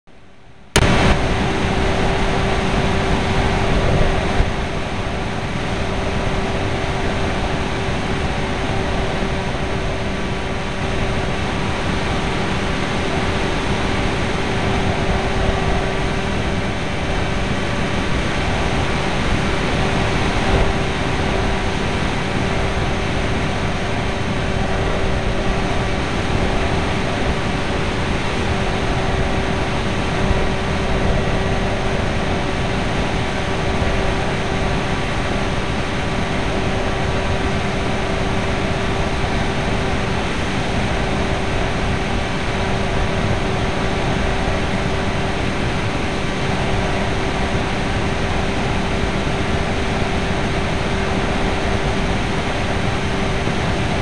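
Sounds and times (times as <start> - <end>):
wind and propeller noise: 0.2 - 54.0
electric motor hum: 0.8 - 54.0.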